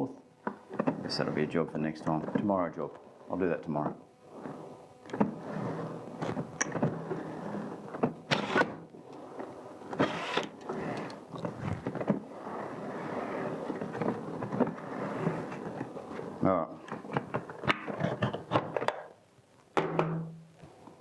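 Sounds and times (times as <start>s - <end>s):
plastic drum whirring: 0.4s - 19.0s.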